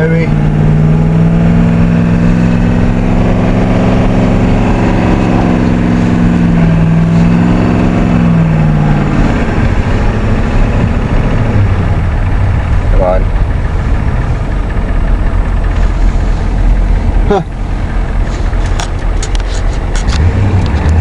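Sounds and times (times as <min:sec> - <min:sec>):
diesel truck engine revving: 0:00.0 - 0:21.0.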